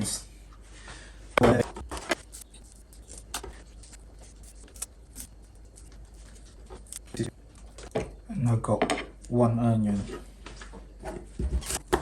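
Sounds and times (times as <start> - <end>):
low steady hum: 0.2 - 12.0.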